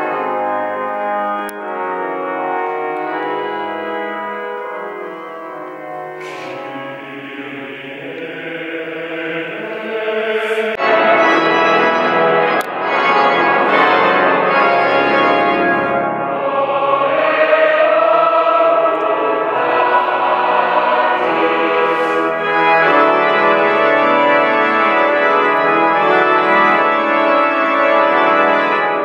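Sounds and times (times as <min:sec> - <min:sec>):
choir singing held chords: 0:00.0 - 0:29.0
pipe organ chords: 0:00.0 - 0:29.0.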